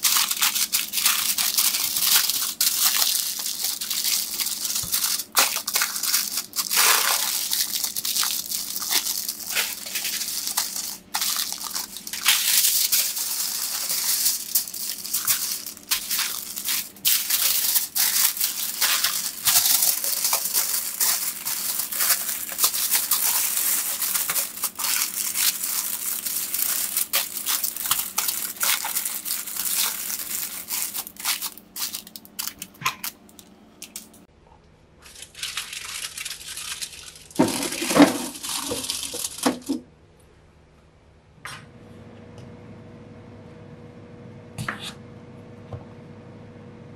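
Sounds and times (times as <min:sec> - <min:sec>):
aluminium foil crinkling: 0:00.0 - 0:34.3, 0:35.0 - 0:39.8.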